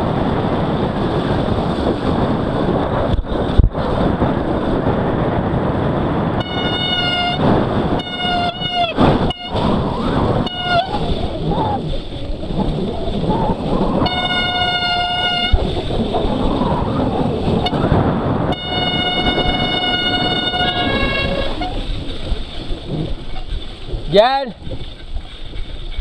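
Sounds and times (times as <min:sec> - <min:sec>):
rough riding noise: 0:00.0 - 0:26.0.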